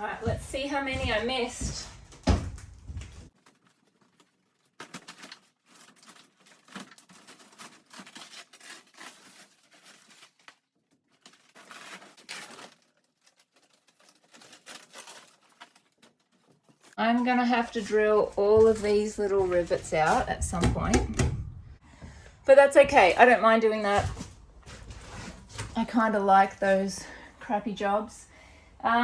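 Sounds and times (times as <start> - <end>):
material rustling and scraping: 0.0 - 21.8, 22.8 - 26.8.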